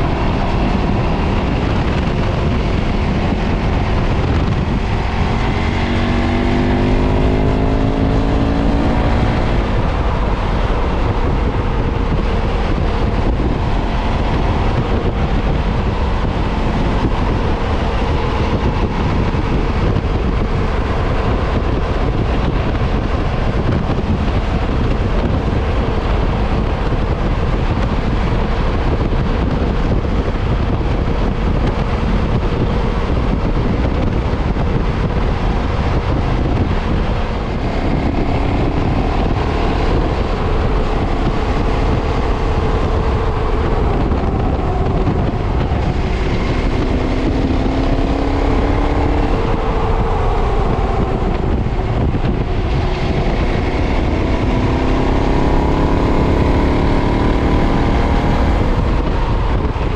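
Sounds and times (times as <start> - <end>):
heavy wind noise: 0.0 - 59.9
motorcycle engine accelerating: 0.0 - 59.9.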